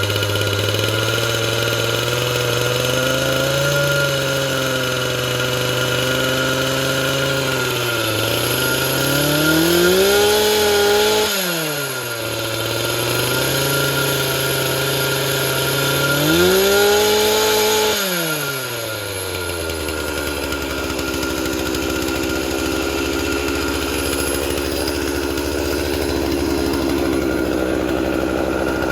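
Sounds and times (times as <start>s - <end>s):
chainsaw idling and revving: 0.0s - 28.9s.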